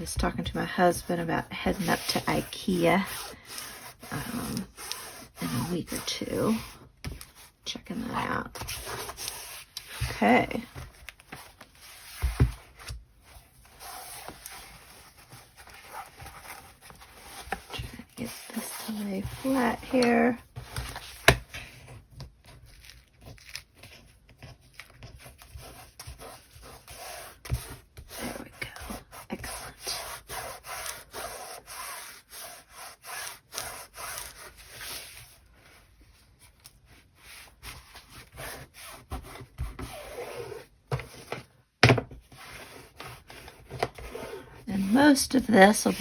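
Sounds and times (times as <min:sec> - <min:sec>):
bone folder scraping on paper: 0:00.2 - 0:07.5, 0:08.5 - 0:35.8, 0:36.6 - 0:41.5, 0:42.2 - 0:46.0.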